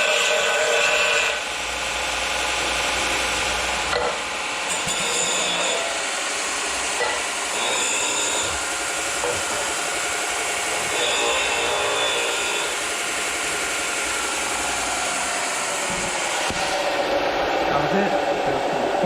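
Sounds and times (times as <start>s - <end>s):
power tool on metal with whine: 0.0s - 19.0s.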